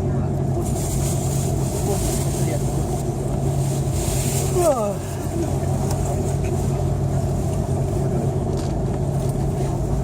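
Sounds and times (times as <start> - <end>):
airplane cabin drone: 0.0 - 10.0.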